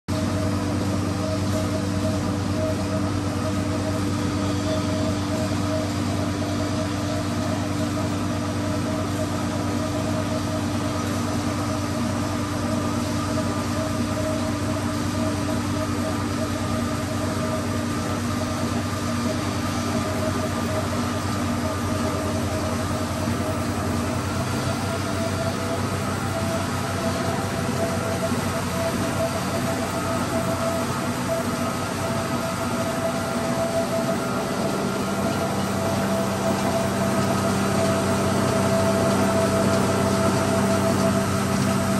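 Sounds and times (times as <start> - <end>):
wire drawing machine humming: 0.1 - 41.9.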